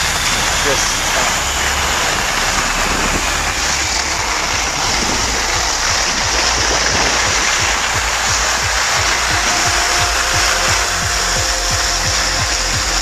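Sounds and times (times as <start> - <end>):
skis sliding over snow: 0.0 - 13.0
wind rumbling on microphone: 0.0 - 13.0.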